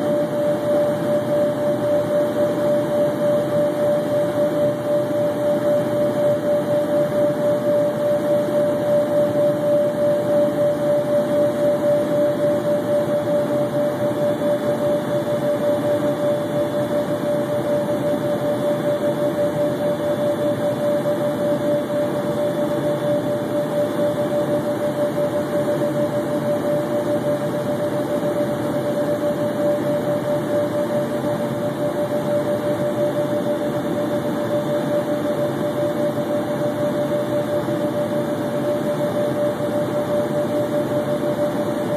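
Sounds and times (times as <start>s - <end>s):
jet cabin airflow and engine noise: 0.0s - 41.9s
steady hum: 0.0s - 41.9s.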